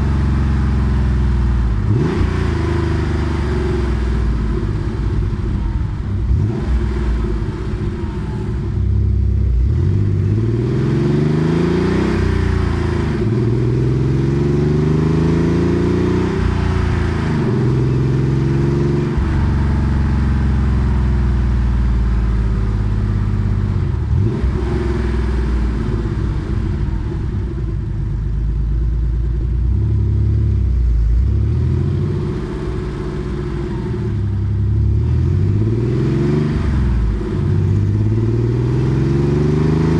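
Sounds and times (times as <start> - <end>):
car exhaust accelerating through gears: 0.0 - 39.9.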